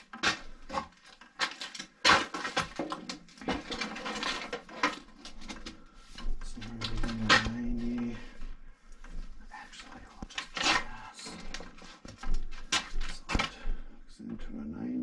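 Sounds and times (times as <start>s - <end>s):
plastic pipes knocking and scraping: 0.0s - 9.3s, 9.9s - 13.9s.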